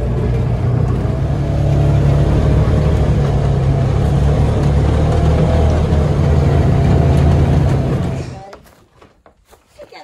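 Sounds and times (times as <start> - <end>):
utility vehicle engine running: 0.0 - 8.6.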